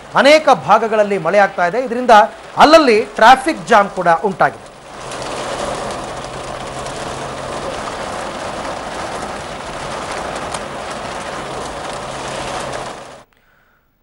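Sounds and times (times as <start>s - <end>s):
heavy rain hissing: 0.0s - 13.3s
vehicle engine hum: 0.0s - 13.3s.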